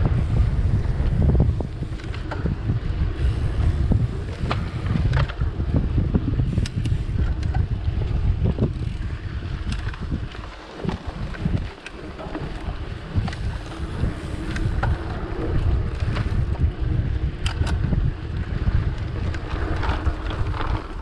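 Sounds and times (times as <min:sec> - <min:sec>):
bike clicking and rattling: 0:00.0 - 0:21.0
bike tyres rumbling on dirt: 0:00.0 - 0:21.0
wind buffeting microphone: 0:00.0 - 0:21.0.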